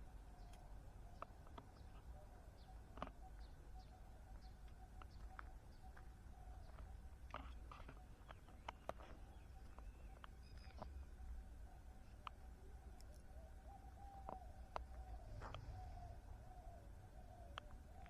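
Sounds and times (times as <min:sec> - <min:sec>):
faint birds chirping: 0:00.0 - 0:18.0
low background hum: 0:00.0 - 0:18.0.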